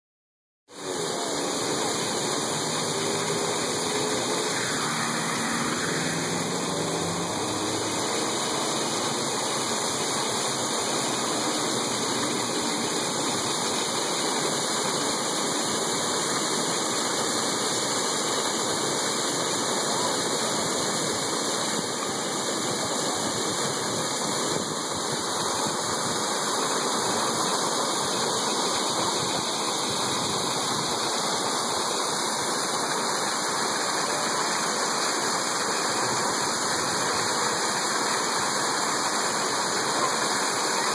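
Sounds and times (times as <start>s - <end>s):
fountain jets splashing: 0.7s - 40.9s.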